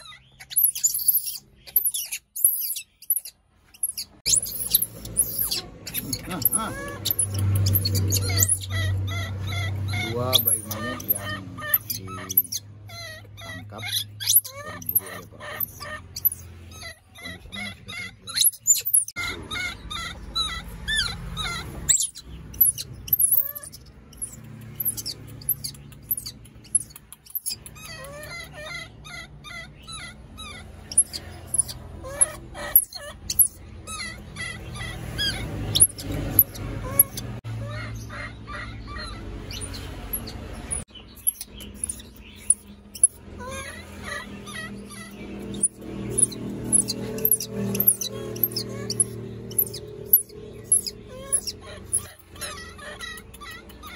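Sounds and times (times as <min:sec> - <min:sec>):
baby monkeys crying: 0:00.0 - 0:53.9.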